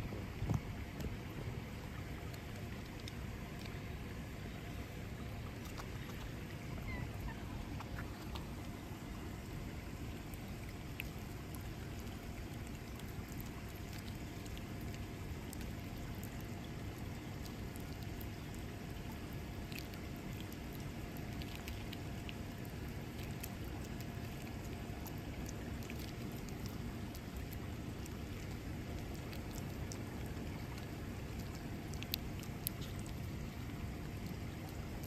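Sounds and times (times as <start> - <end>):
rainwater dripping and running: 0.0 - 35.0
small scattered drips: 0.0 - 35.0.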